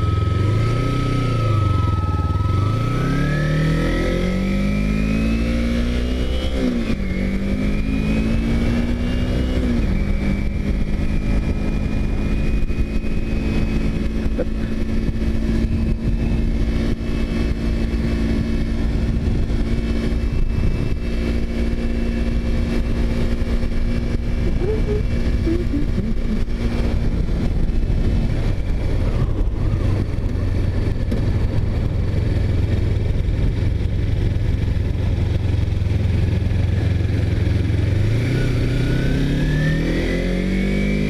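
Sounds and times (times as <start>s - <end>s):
wind rumble: 0.0s - 40.9s
motorcycle engine accelerating: 0.0s - 41.0s.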